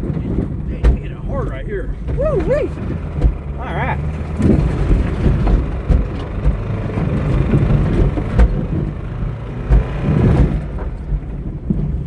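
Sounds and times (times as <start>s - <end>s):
car engine rumble: 0.0s - 12.0s
heavy suspension thumps: 0.0s - 12.0s.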